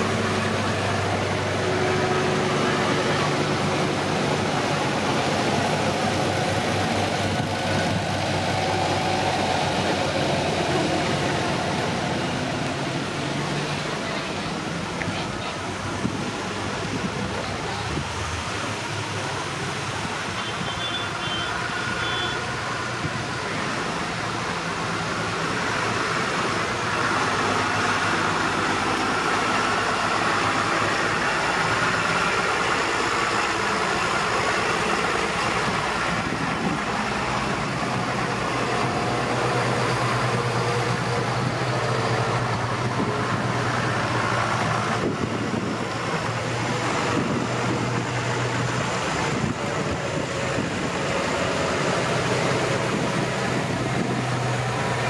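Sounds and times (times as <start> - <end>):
tractor engine drone: 0.0 - 55.0
tractors driving past: 0.0 - 55.0.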